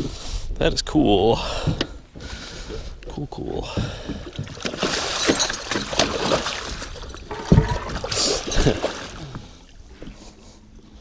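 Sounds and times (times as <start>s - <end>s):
water splashing beside boat: 1.6s - 11.0s.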